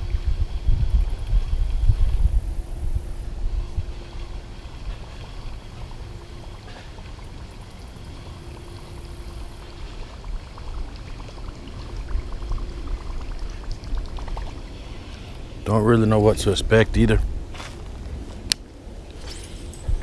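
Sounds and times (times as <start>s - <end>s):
wind rumble on microphone: 0.0s - 7.2s, 8.6s - 20.0s
water gurgling and sputtering: 0.0s - 20.0s.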